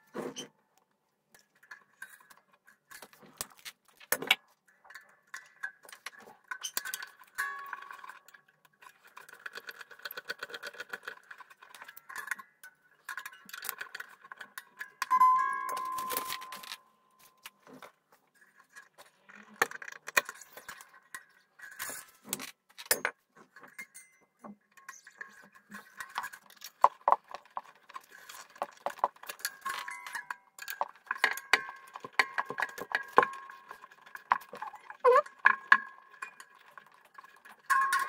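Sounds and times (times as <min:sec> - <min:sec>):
tuning machines clicking and clinking: 0:01.4 - 0:38.0.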